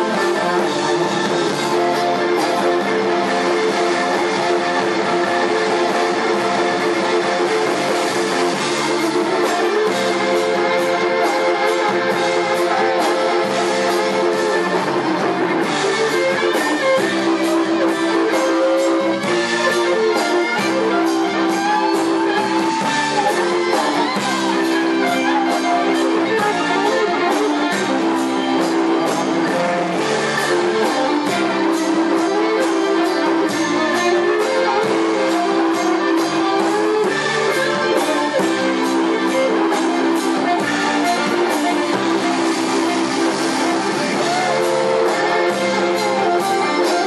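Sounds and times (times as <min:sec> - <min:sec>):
bass guitar: 0:00.0 - 0:47.0
electric guitar: 0:00.0 - 0:47.0
steady drum beat: 0:00.0 - 0:47.0.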